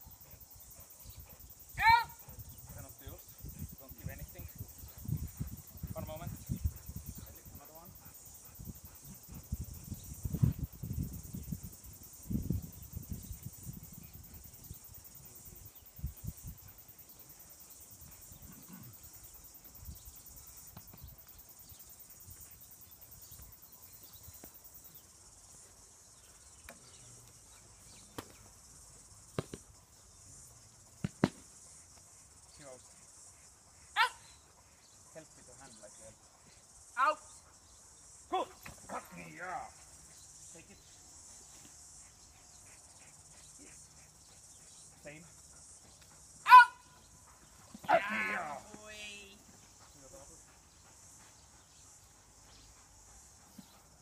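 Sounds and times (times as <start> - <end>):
insects chirping: 0.0 - 54.0.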